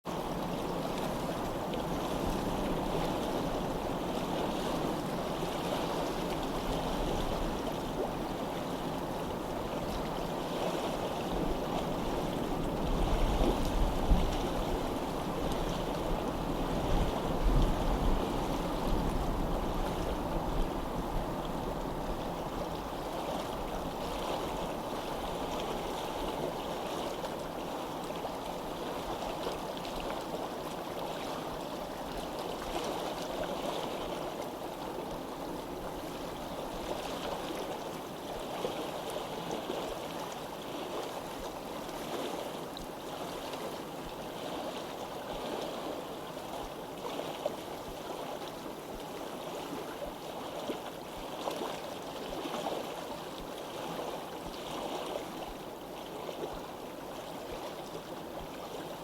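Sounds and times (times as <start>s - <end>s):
running water rushing: 0.1s - 59.0s.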